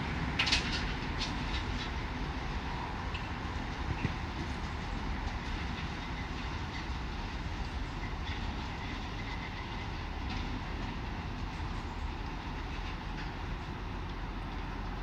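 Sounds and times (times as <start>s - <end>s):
freight train wheels rumbling: 0.0s - 15.0s
faint rail clicks: 0.3s - 15.0s.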